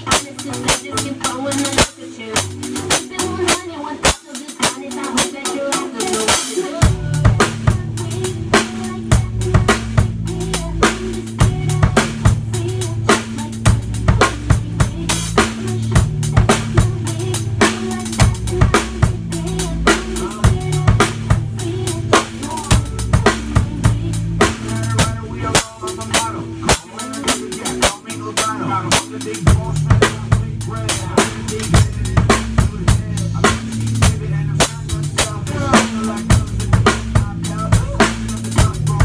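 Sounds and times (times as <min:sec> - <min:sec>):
backing track bass line: 0:00.0 - 0:39.0
drum kit playing a groove: 0:00.0 - 0:39.0.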